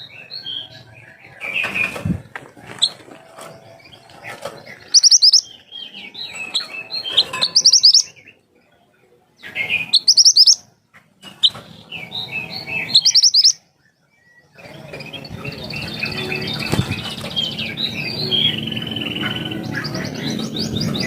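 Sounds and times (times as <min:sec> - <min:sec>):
songbird singing: 0:00.0 - 0:21.0
soft bird twittering: 0:03.6 - 0:21.0.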